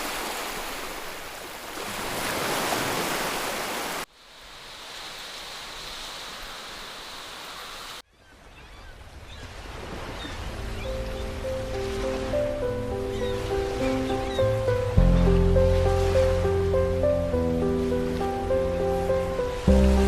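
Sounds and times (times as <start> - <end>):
sea water rushing: 0.0 - 8.0, 9.3 - 20.0.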